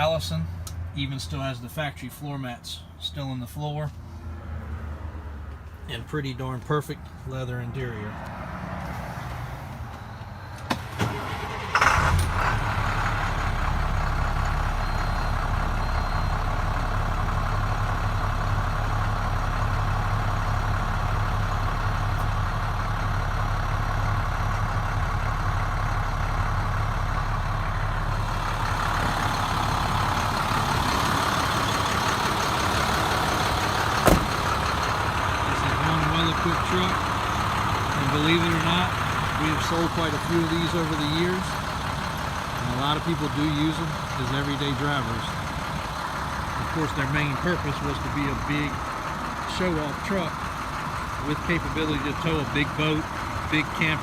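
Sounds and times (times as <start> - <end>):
diesel engine starting and idling: 0.0 - 54.0.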